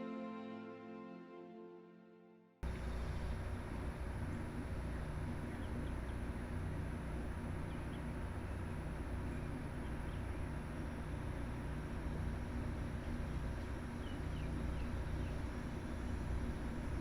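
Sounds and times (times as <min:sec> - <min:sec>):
steady outdoor rumbling: 0:02.6 - 0:17.0.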